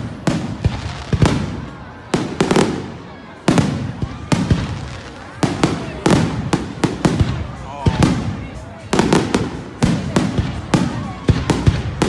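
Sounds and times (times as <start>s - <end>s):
fireworks bursting with echoes: 0.0s - 12.0s.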